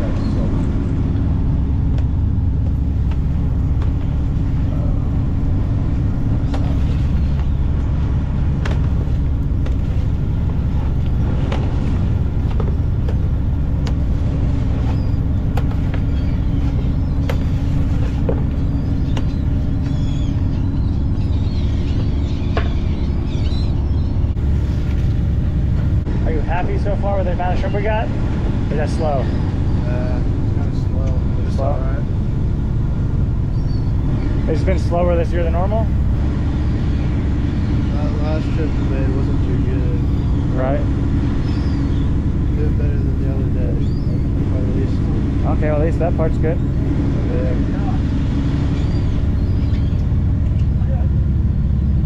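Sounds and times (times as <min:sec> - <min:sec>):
diesel engine drone: 0:00.0 - 0:52.0
gulls calling: 0:00.0 - 0:52.0.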